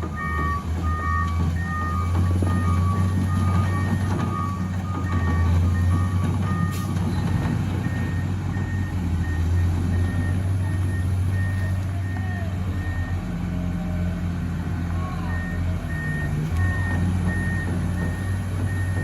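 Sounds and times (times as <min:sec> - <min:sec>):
high reversing alarm beeps: 0:00.0 - 0:13.2, 0:15.2 - 0:19.0
low reversing alarm beeps: 0:00.0 - 0:13.2, 0:15.2 - 0:19.0
heavy diesel engines running: 0:00.0 - 0:19.0.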